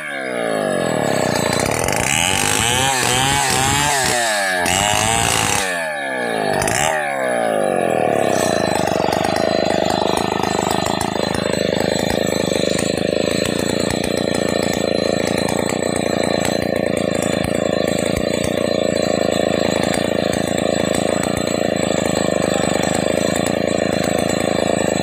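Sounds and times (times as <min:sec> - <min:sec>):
chainsaw idling: 0:00.0 - 0:25.0.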